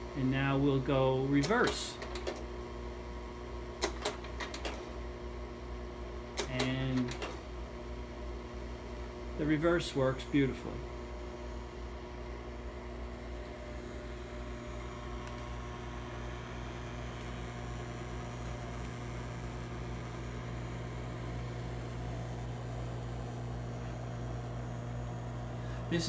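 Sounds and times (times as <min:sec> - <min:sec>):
slide projector fan humming: 0:00.0 - 0:26.0.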